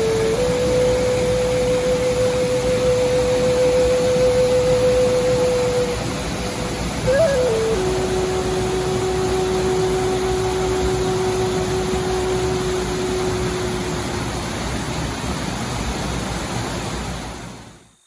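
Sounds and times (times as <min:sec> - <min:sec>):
held musical note: 0:00.0 - 0:14.5
waterfall roar: 0:00.0 - 0:17.8.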